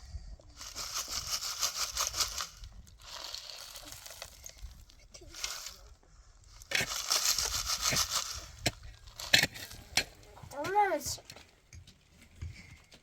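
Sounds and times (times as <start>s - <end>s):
crunching and scraping: 0.5s - 13.0s.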